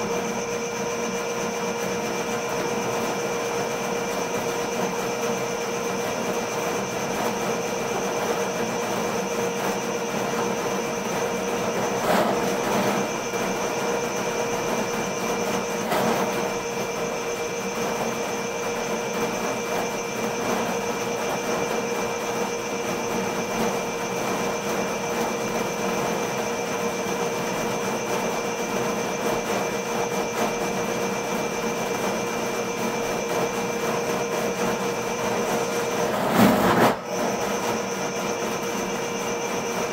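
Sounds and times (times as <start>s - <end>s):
drain cleaning machine motor whining: 0.0s - 39.9s.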